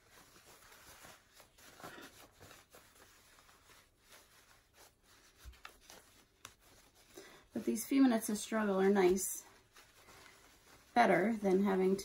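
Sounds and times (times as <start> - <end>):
fabric rustling and rubbing: 0.0 - 12.0.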